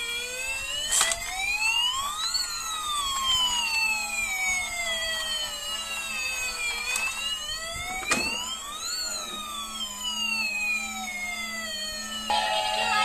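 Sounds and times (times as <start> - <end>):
emergency vehicle wail siren: 0.0 - 13.0.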